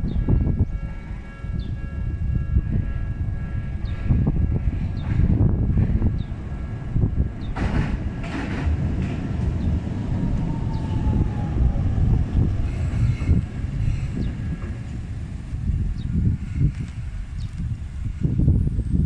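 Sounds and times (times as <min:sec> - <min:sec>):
rail noise: 0:00.0 - 0:19.0
streetcar rumble on rails: 0:00.0 - 0:19.0.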